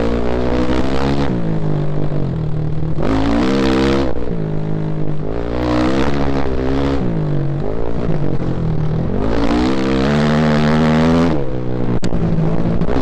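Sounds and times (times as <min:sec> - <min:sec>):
off-road motorcycle engine revving: 0:00.0 - 0:13.0.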